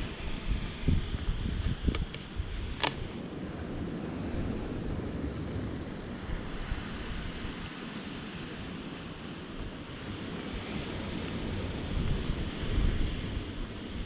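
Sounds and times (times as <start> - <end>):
sea surf: 0.0 - 14.0
wind buffeting microphone: 0.0 - 14.0.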